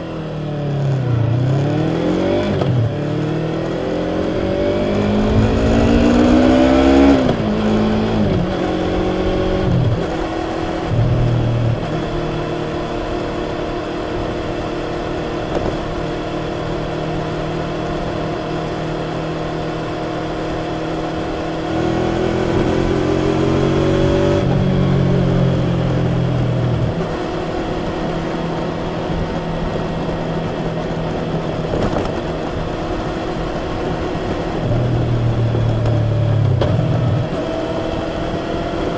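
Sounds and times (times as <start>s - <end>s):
motorcycle engine revving and cruising: 0.0s - 38.9s.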